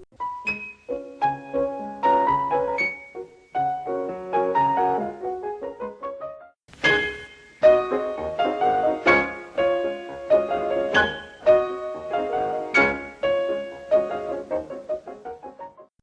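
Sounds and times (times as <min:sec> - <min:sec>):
piano chords and notes: 0:00.0 - 0:15.9.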